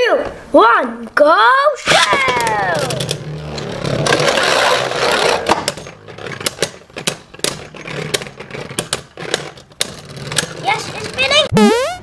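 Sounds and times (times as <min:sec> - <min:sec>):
spinning top whirring and rattling: 0:01.8 - 0:11.5.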